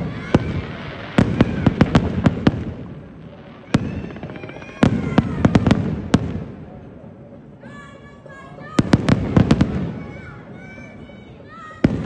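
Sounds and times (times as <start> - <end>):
fireworks bangs: 0.0 - 7.1, 8.7 - 11.0, 11.6 - 12.0.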